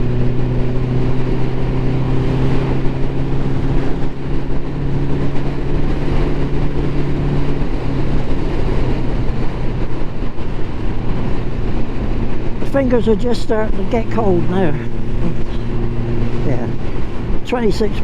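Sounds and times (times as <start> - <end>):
motorcycle engine running: 0.0 - 18.0
wind and road rush: 0.0 - 18.0.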